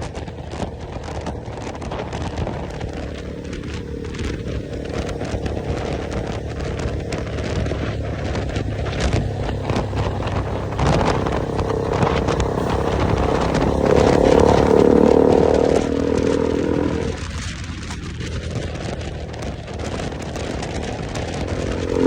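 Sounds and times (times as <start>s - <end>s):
motorcycle engine running: 0.0s - 22.0s
road and wind noise: 0.0s - 22.0s.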